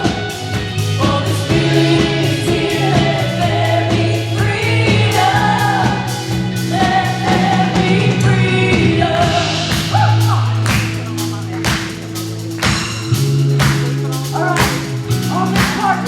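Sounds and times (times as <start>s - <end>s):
voices singing together: 0.0s - 16.0s
worship band playing: 0.0s - 16.0s.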